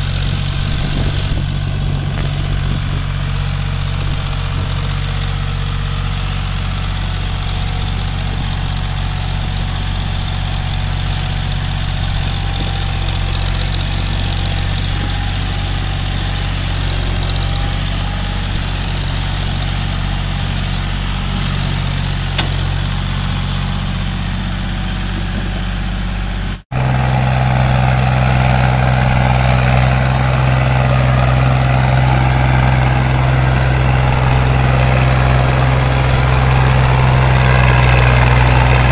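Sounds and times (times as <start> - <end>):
diesel tractor engine under load: 0.0 - 38.9.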